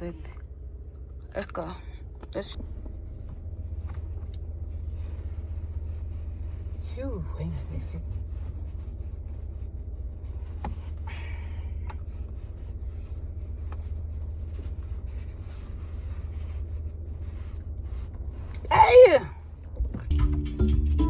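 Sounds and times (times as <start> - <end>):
car rumbling inside cabin: 0.0 - 21.0.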